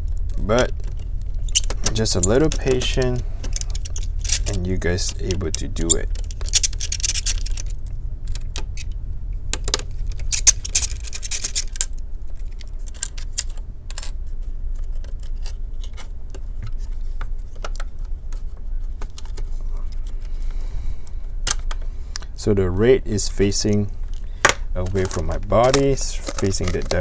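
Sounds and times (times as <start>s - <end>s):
light clicks and rattles of parts: 0.0s - 27.0s
steady low hum: 0.0s - 27.0s.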